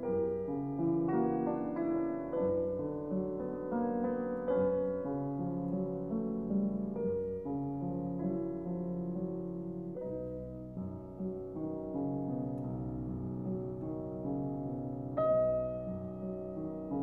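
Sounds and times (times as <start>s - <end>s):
background piano music: 0.0s - 17.0s.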